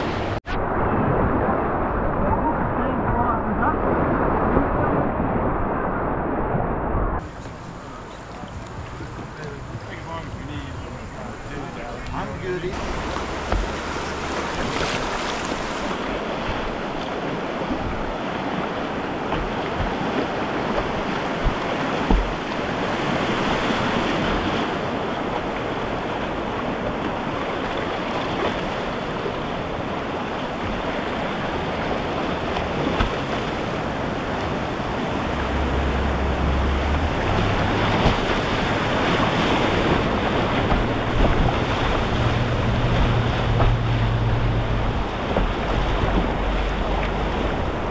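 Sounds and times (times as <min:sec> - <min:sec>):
river water rushing: 0:00.0 - 0:00.4, 0:01.0 - 0:47.9
wind rumble on microphone: 0:00.0 - 0:11.0, 0:12.7 - 0:47.9.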